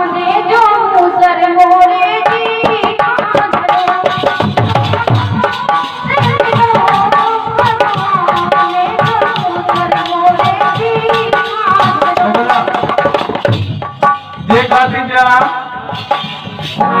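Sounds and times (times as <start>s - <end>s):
fast hand drum strokes: 2.1s - 17.0s.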